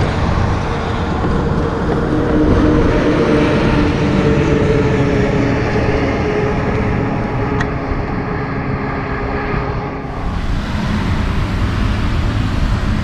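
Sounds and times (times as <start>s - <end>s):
light traffic: 0.0s - 13.0s
truck driving past: 0.0s - 13.0s.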